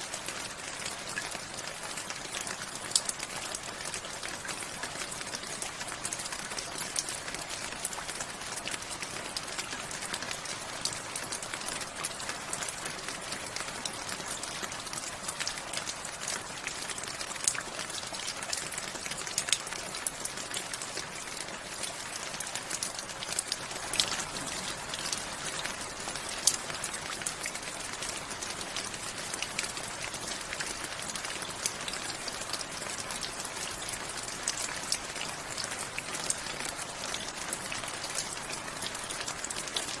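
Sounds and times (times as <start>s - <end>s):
raindrops ticking: 0.1s - 40.0s.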